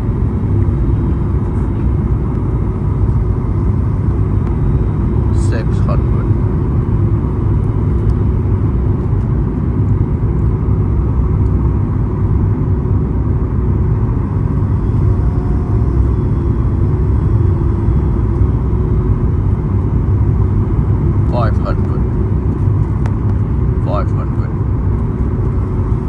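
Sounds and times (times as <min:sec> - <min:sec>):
aircraft cabin engine rumble: 0:00.0 - 0:26.0
faint steady hum: 0:00.0 - 0:26.0.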